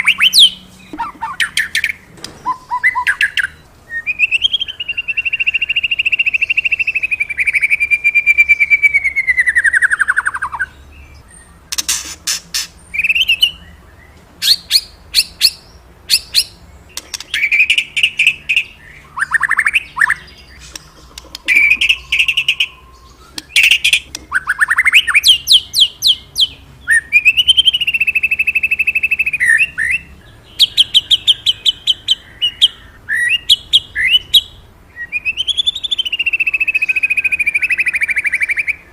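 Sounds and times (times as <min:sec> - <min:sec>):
songbird singing trills: 0:00.0 - 0:38.9.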